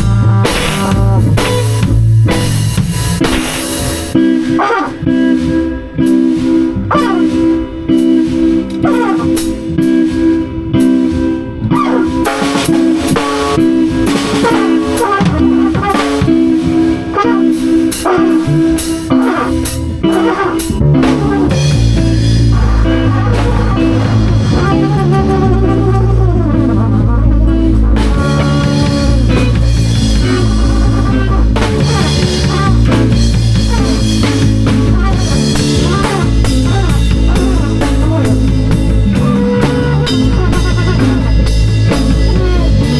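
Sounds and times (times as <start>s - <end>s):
drum kit: 0.0s - 42.9s
guitar playing: 0.0s - 42.9s
heavy low bass line: 0.0s - 42.9s.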